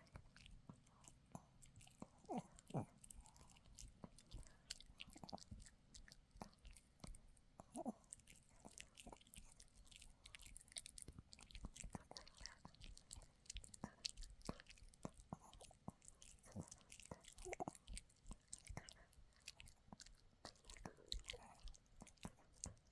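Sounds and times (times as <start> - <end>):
dog chewing on a chew: 0.0 - 22.9.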